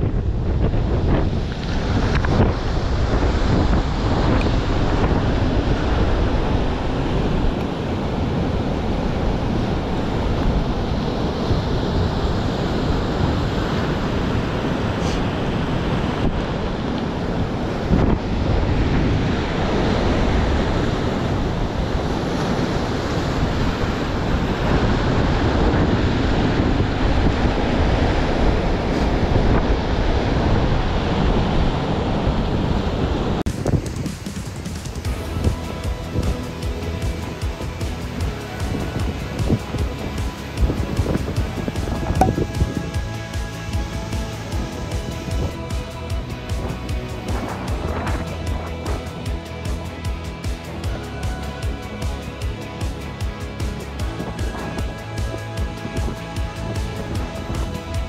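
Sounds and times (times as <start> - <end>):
surf breaking on rocks: 0.0 - 58.0
wind buffeting microphone: 0.0 - 58.0.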